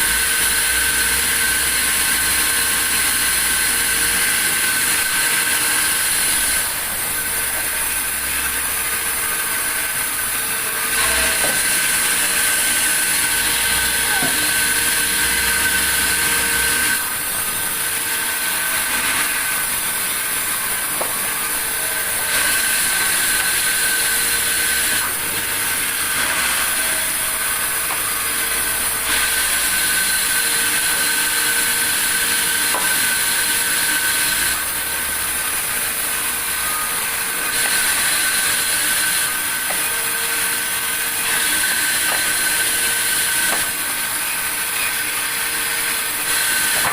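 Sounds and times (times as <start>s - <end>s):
sawmill saw running: 0.0s - 46.9s.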